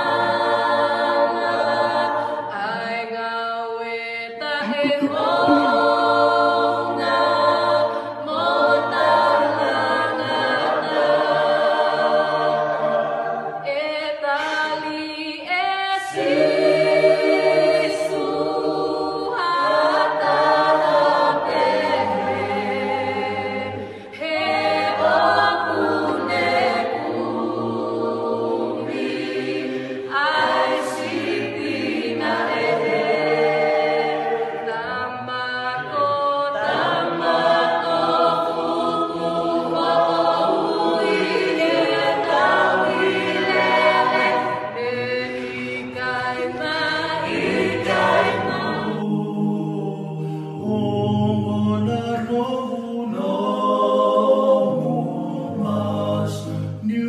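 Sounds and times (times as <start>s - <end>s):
group singing a cappella: 0.0s - 57.0s.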